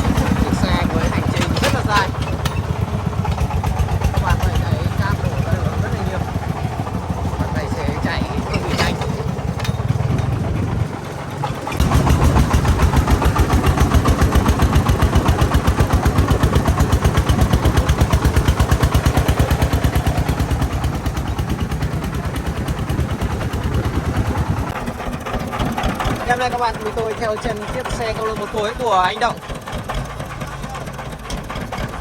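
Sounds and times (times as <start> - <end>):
diesel engine thumping: 0.0 - 32.0.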